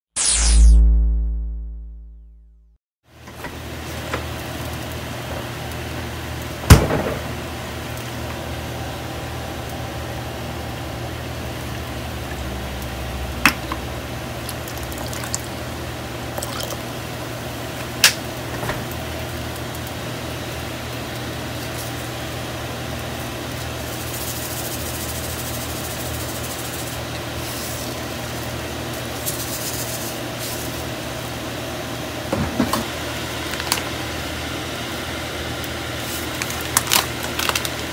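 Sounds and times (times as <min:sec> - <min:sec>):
water boiling in a saucepan: 0:03.1 - 0:06.6, 0:07.4 - 0:37.9.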